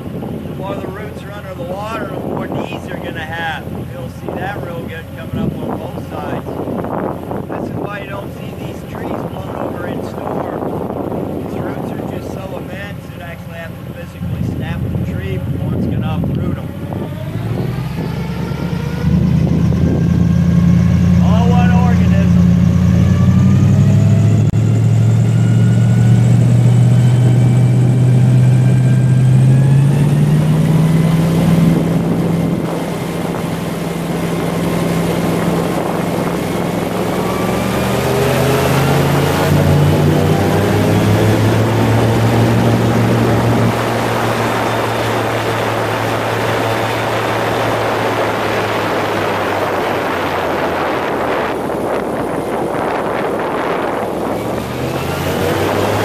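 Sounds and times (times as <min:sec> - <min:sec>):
airboat engine and propeller: 0:00.0 - 0:56.0.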